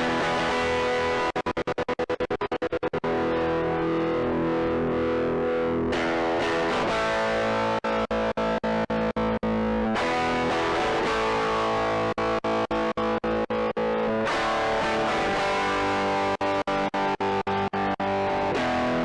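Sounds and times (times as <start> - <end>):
distorted electric guitar chords: 0.0 - 19.0.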